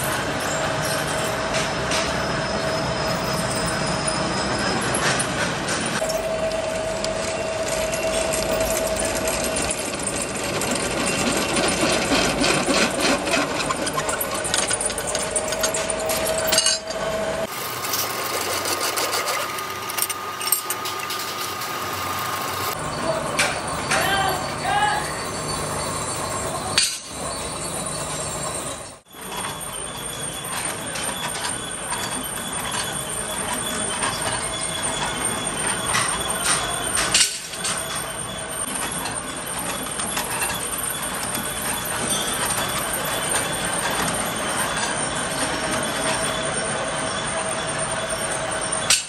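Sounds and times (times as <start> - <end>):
steel chips clicking and rattling: 7.0 - 28.6, 29.2 - 49.0.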